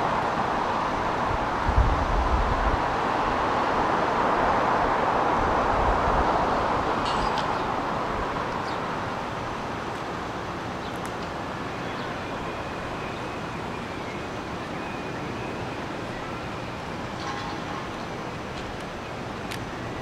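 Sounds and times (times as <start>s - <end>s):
distant traffic rush: 0.0s - 20.0s.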